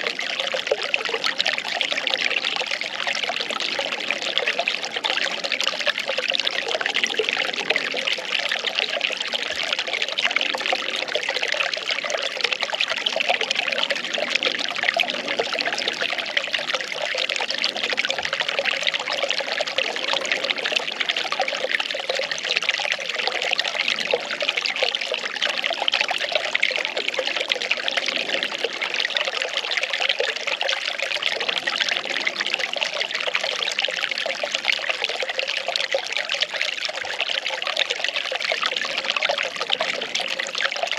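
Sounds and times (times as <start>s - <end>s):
water pouring and trickling: 0.0s - 40.9s.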